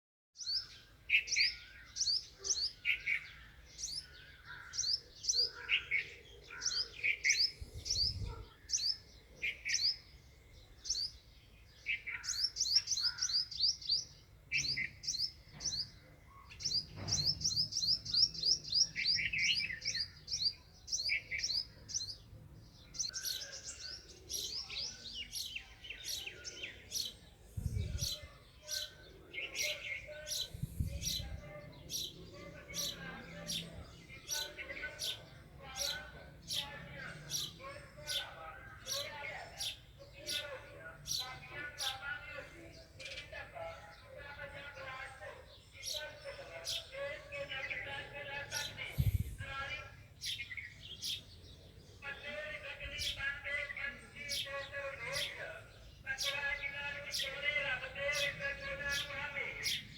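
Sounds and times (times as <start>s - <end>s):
sparrows chirping: 0.4s - 59.9s.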